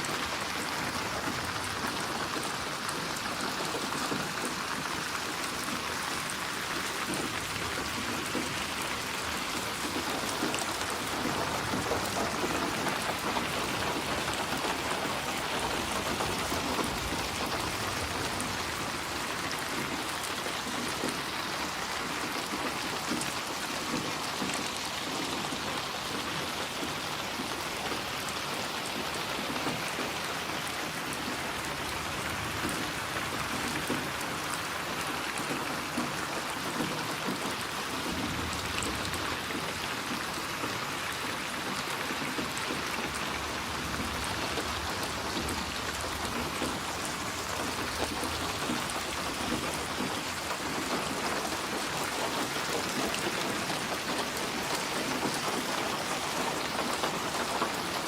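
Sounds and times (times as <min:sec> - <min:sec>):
rain pattering on surface: 0:00.0 - 0:58.0.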